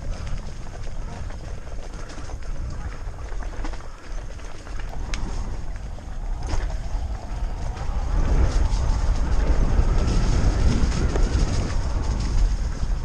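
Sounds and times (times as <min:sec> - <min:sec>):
bike rattling over rough trail: 0:00.0 - 0:13.0
wind rumble on microphone: 0:00.0 - 0:13.0.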